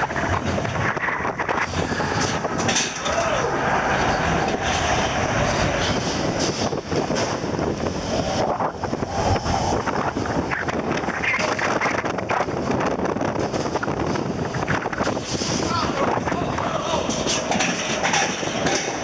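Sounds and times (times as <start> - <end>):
roller coaster rumbling on track: 0.0 - 19.0
wind rushing over microphone: 0.0 - 19.0.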